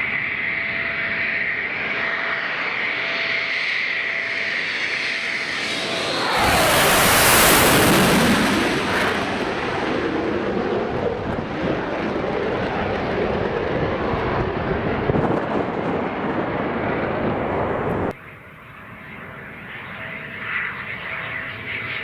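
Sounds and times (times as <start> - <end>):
jet engines whining: 0.0 - 22.0
jet roaring past: 0.0 - 22.0.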